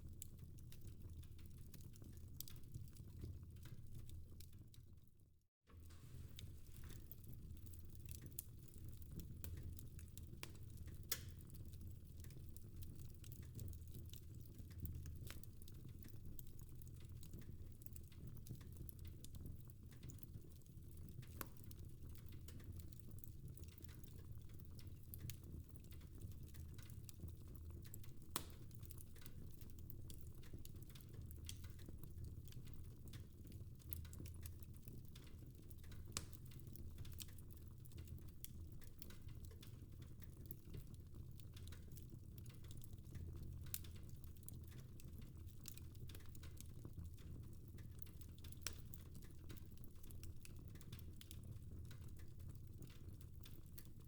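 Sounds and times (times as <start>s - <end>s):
fireplace fire crackling: 0.0s - 5.1s, 5.7s - 54.0s.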